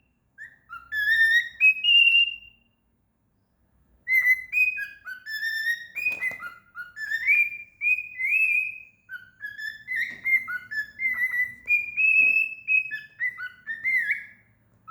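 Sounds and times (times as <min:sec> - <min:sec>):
cockatiel whistling: 0:00.0 - 0:02.7, 0:04.0 - 0:14.9.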